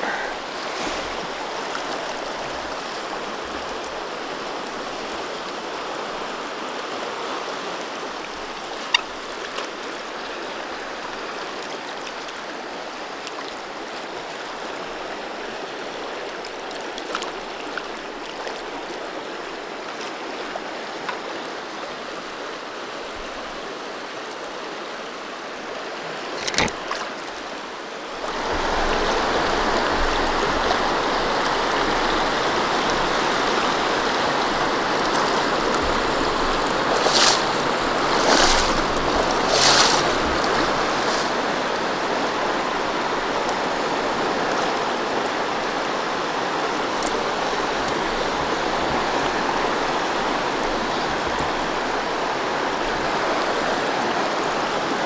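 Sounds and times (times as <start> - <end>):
river current rushing: 0.0 - 55.0.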